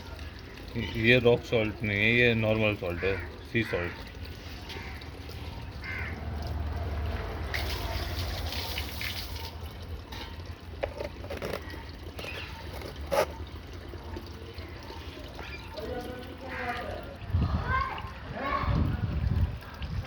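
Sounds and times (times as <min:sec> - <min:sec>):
water pouring into a vessel: 0:00.0 - 0:20.0.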